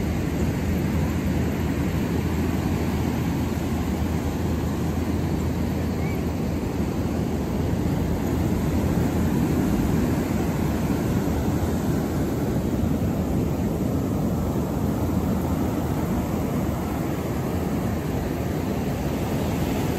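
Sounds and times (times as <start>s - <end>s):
ocean waves breaking on beach: 0.0s - 19.9s.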